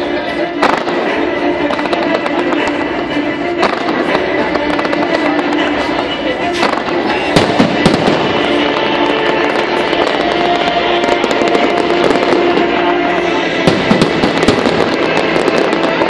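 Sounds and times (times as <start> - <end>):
fireworks bursting with bangs: 0.0 - 16.0
fireworks crackling: 0.0 - 16.0
music with held tones: 0.0 - 16.0.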